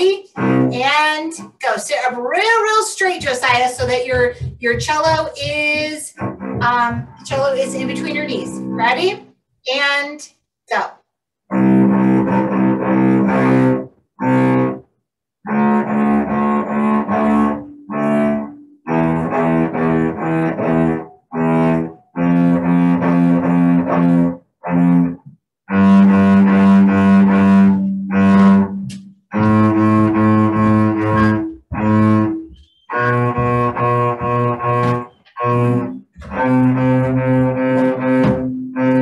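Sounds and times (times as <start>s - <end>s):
cello bowed notes: 0.0s - 9.2s, 11.5s - 39.0s.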